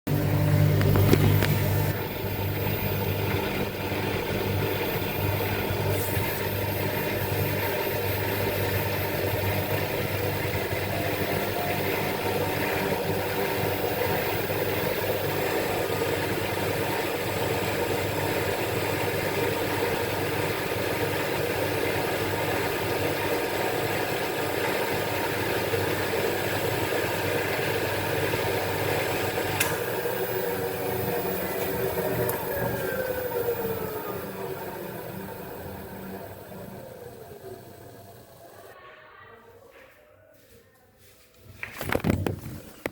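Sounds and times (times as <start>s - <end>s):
washing machine running: 0.0s - 38.8s.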